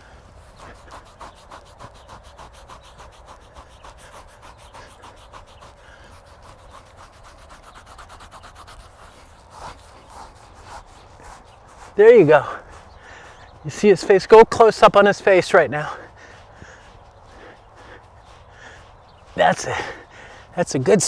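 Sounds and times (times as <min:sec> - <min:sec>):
fingers scratching horse coat: 0:00.0 - 0:19.8, 0:20.5 - 0:21.0.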